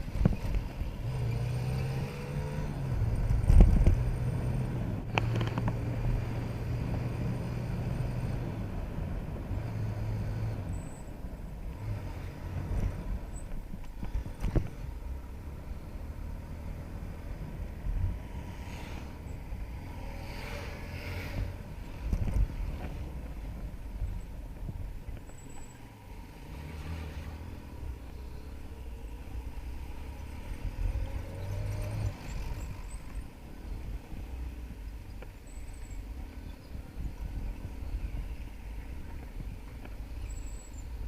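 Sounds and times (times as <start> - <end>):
motorcycle engine rumble: 0.0 - 41.0.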